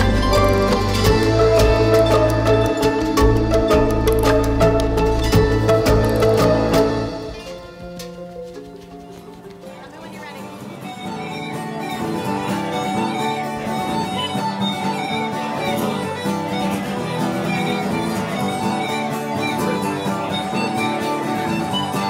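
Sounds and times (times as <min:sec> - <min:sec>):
uilleann pipes melody: 0:00.0 - 0:09.5, 0:10.8 - 0:22.0
acoustic guitars strumming: 0:00.0 - 0:22.0.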